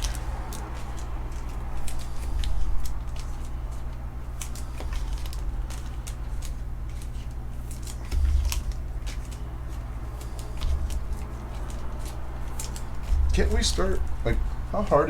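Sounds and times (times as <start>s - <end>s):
light plastic rustles: 0.0s - 15.0s.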